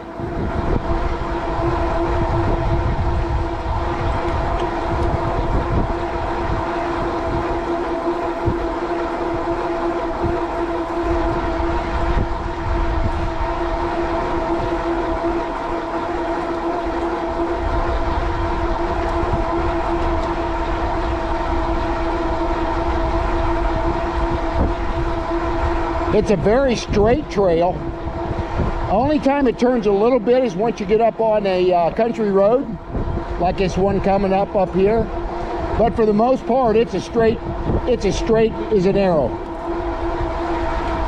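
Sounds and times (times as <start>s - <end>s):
electric hub motor whine: 0.0s - 41.0s
wind buffeting microphone: 0.0s - 41.0s.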